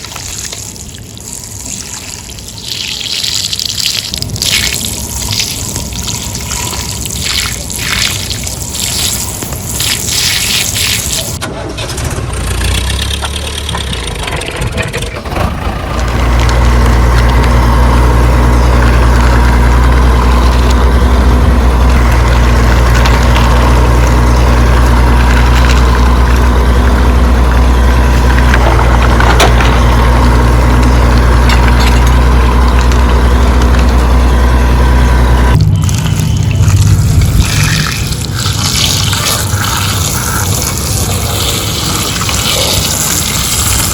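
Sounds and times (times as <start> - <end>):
water splashing and spraying: 0.0 - 11.4, 16.1 - 33.8, 35.6 - 43.9
loud engine drone: 3.9 - 43.9.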